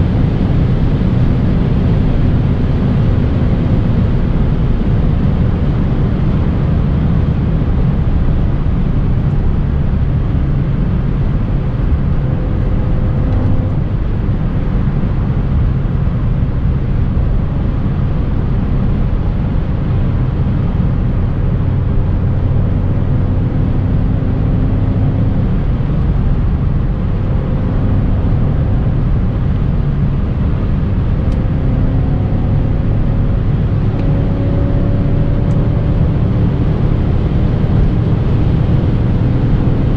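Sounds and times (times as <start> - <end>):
car engine running at speed: 0.0 - 39.9.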